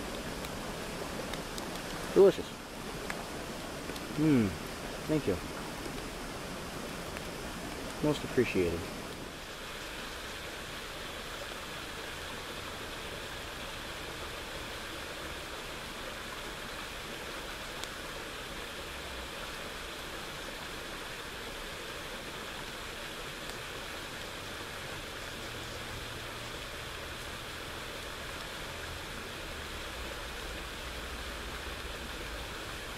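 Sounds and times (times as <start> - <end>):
water rushing: 0.0 - 32.9.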